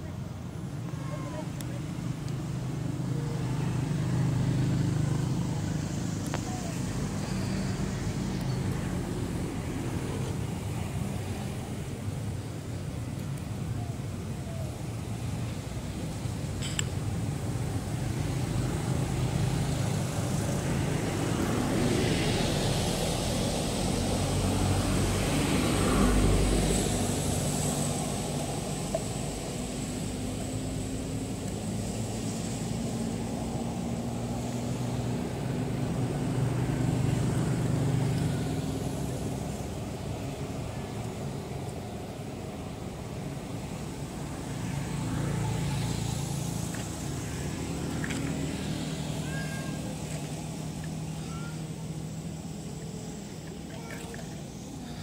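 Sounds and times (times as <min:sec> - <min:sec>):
distant motor vehicles rumbling: 0:00.0 - 0:55.0.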